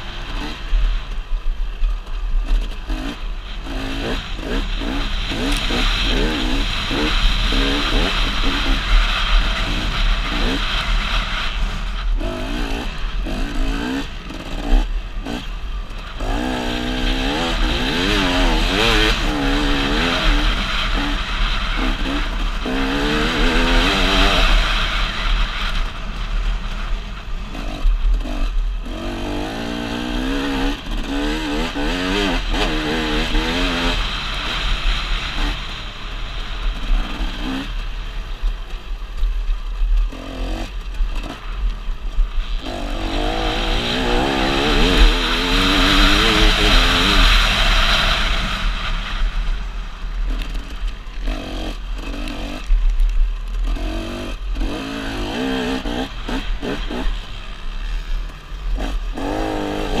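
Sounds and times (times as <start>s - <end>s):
motocross bike engine revving: 0.0s - 60.0s
steady low rumble: 0.0s - 60.0s.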